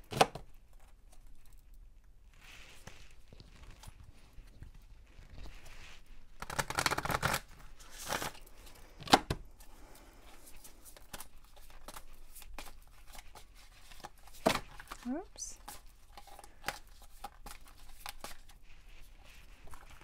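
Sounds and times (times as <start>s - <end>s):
cards rustling while shuffled: 0.1s - 20.0s.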